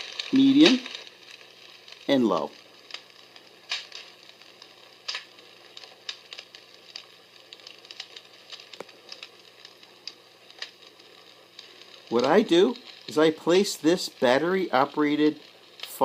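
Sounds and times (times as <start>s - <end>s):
faint steady hiss: 0.0s - 16.0s
fire crackling sound machine: 0.0s - 16.0s.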